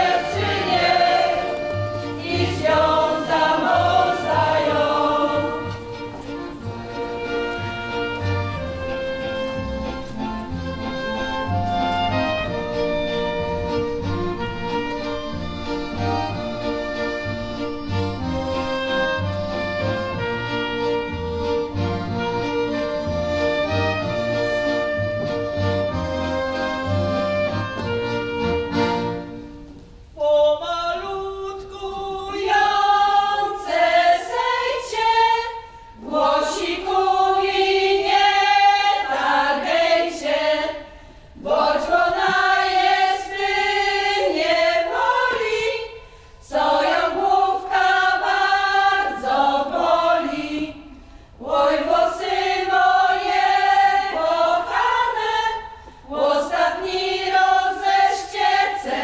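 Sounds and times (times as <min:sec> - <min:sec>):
group singing folk song: 0:00.0 - 0:29.5, 0:30.2 - 0:59.0
instrumental music: 0:00.0 - 0:30.2, 0:32.4 - 0:59.0.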